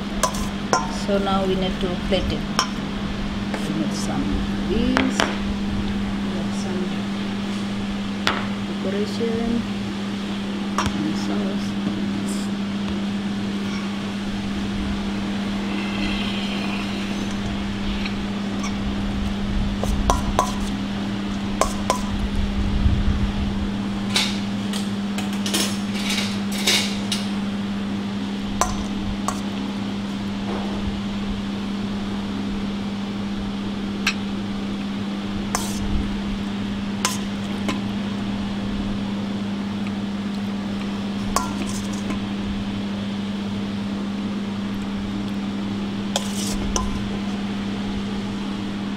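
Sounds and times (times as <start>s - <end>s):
low mechanical hum: 0.0s - 48.9s.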